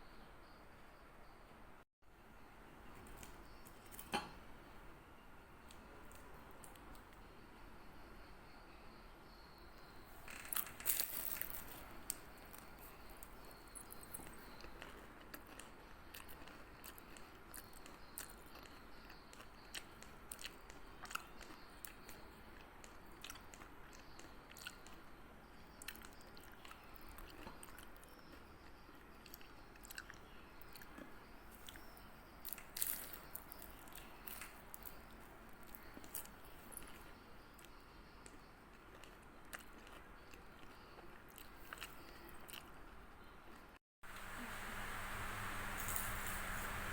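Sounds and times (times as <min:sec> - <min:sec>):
faint clicks and crunching: 0:03.0 - 0:04.4, 0:05.6 - 0:07.3, 0:09.8 - 0:25.1, 0:25.8 - 0:46.9.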